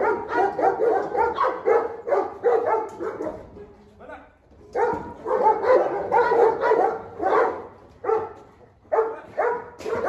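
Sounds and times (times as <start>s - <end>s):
large dog barking aggressively: 0.0s - 3.5s, 4.8s - 10.0s.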